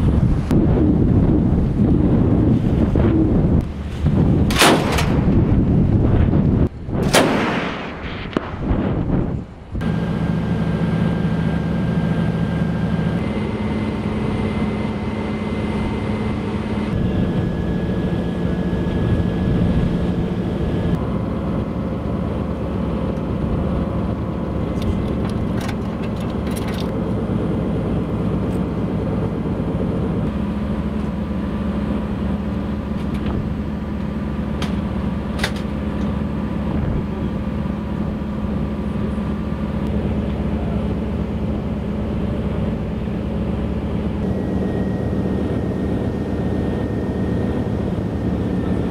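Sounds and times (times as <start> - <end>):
ship engines droning: 0.0 - 48.9.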